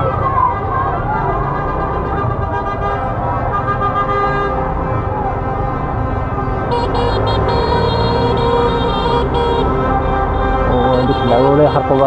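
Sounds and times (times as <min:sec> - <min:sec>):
car horns honking: 0:00.0 - 0:12.0
crowd noise: 0:00.0 - 0:12.0
traffic din: 0:00.0 - 0:12.0.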